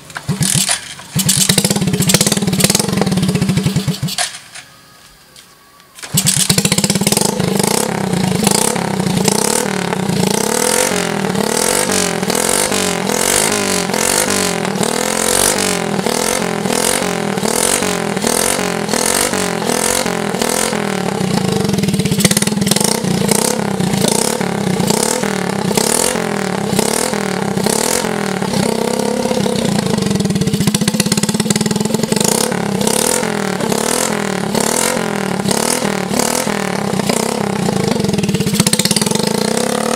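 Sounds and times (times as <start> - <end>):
motorcycle engine revving: 0.0 - 4.4, 6.1 - 39.9.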